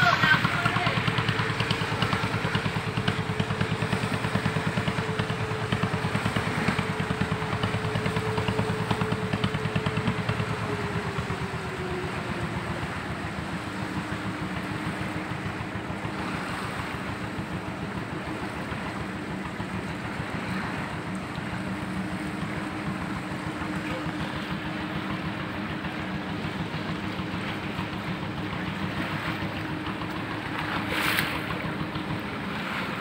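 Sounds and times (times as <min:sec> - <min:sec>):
small boat engine running: 0:00.0 - 0:33.0
water splashing: 0:00.0 - 0:33.0.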